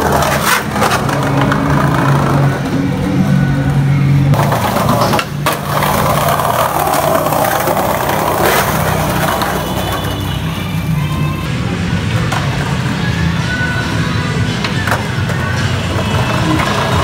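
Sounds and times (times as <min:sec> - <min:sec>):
skateboard wheels rumbling on tiles: 0:00.0 - 0:03.1, 0:04.3 - 0:13.1, 0:14.6 - 0:17.0.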